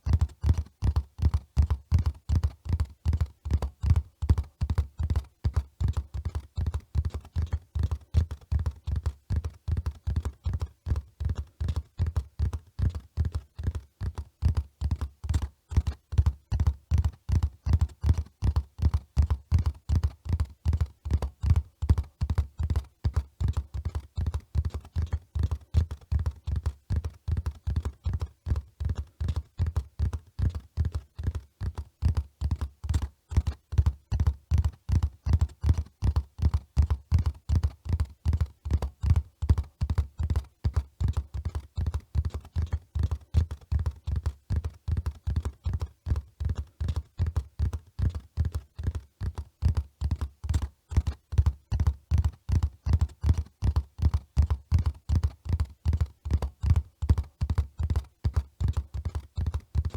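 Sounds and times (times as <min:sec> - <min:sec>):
horse hoofbeats at a run: 0:00.0 - 0:59.9.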